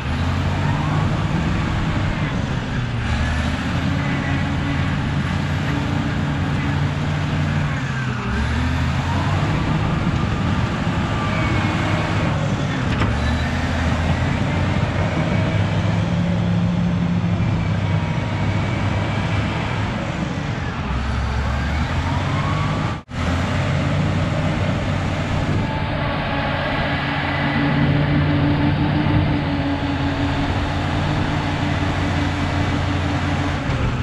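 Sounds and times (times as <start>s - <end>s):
bulldozer diesel engine working: 0.0s - 34.0s.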